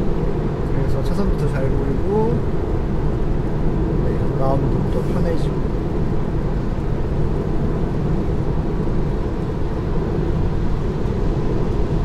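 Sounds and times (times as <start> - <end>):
road and tyre noise in car: 0.0 - 12.0.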